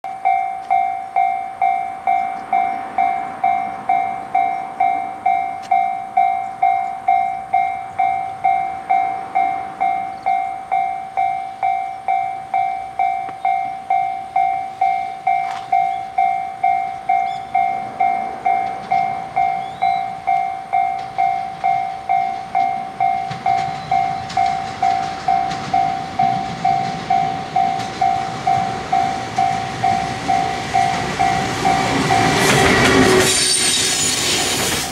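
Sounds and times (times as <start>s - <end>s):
level crossing bell dinging: 0.1s - 32.4s
freight train rumbling: 0.1s - 34.9s.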